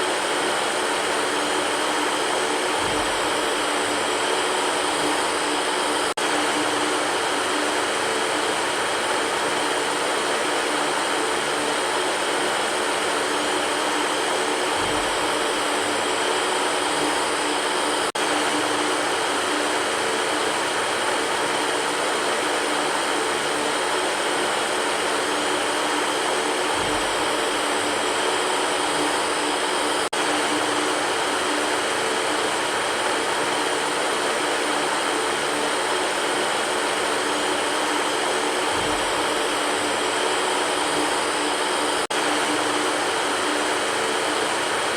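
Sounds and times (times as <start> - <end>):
electric fan whooshing: 0.0 - 44.9.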